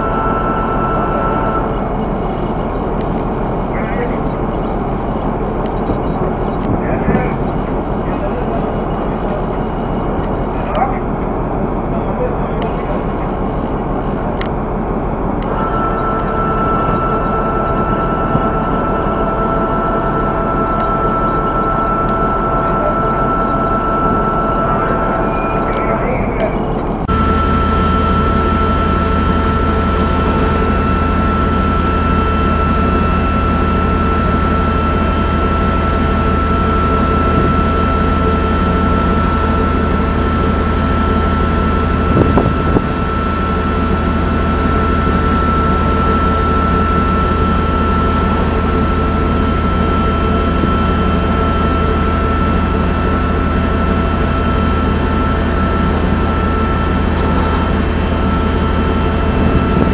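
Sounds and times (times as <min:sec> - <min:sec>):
winch humming and whining: 0:00.0 - 0:59.9.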